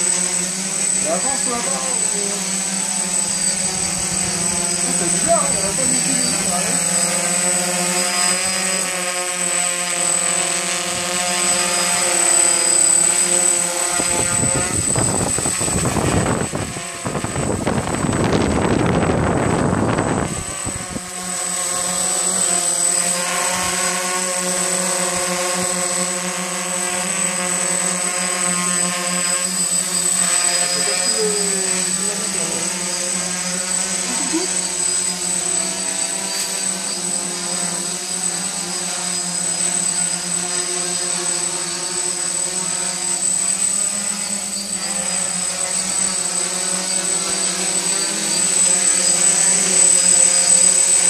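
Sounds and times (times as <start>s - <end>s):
drone motors buzzing: 0.0s - 51.0s
rotor downwash wind noise: 0.0s - 51.0s.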